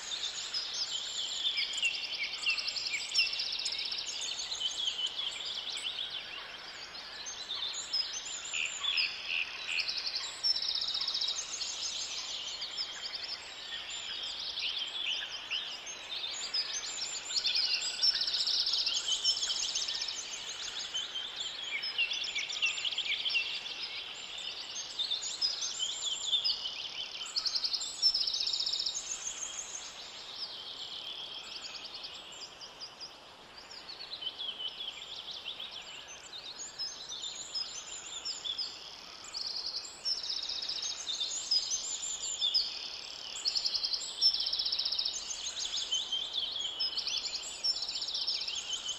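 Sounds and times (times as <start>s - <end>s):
birds singing: 0.0s - 48.9s.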